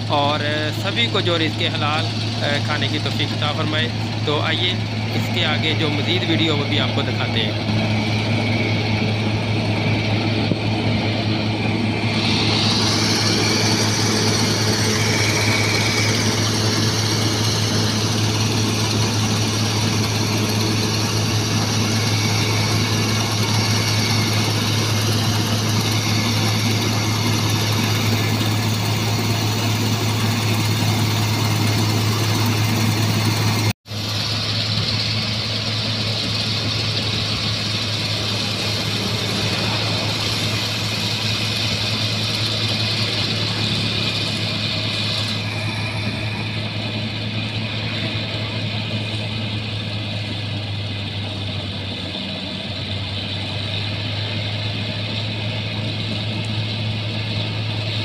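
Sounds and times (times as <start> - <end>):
combine harvester engine drone: 0.0 - 58.0
threshing machinery hum: 0.0 - 58.0.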